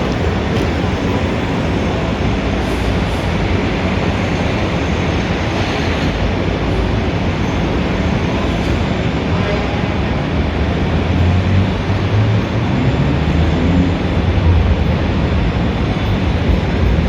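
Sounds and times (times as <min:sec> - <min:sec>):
dense city traffic rumble: 0:00.0 - 0:17.0.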